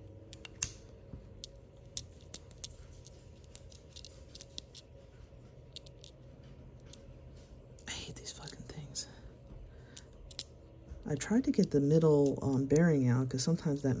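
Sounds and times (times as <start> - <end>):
small clicks and scratches: 0.0 - 8.8, 9.9 - 14.0.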